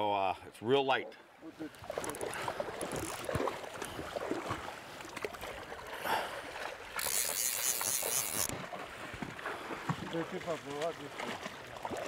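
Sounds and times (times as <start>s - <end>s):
river water running over stones: 1.6s - 12.0s.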